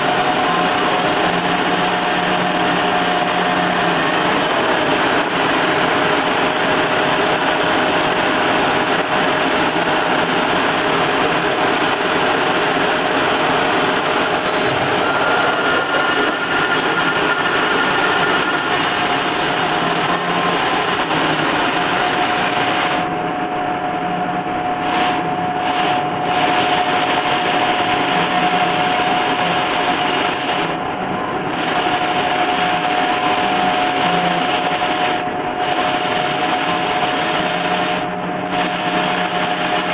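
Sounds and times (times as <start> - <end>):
end mill cutting aluminium: 0.0 - 39.9
router spindle high whine: 0.0 - 39.9.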